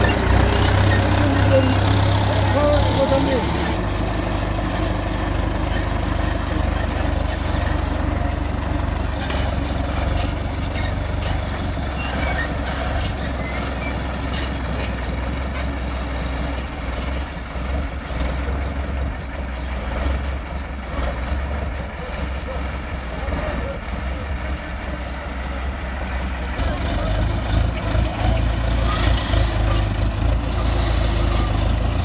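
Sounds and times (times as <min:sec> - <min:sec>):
heavy vehicle engine humming: 0:00.0 - 0:32.0.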